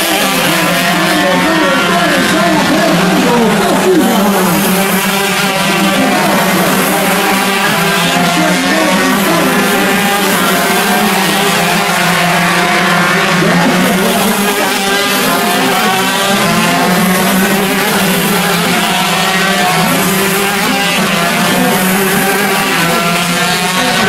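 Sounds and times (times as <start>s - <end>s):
kart engines revving: 0.0s - 24.0s.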